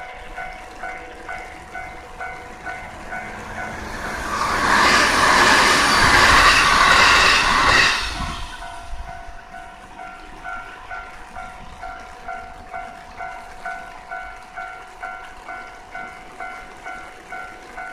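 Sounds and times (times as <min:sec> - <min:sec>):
electric train passing: 0:00.0 - 0:17.9.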